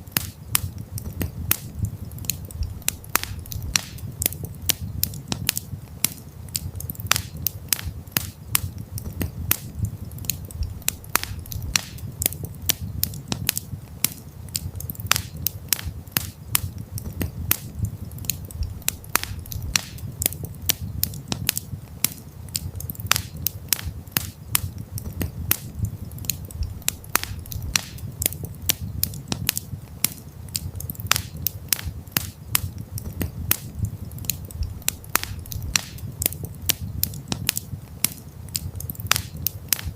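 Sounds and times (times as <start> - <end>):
campfire crackling and popping: 0.0 - 39.9
low rumble of burning fire: 0.0 - 39.9.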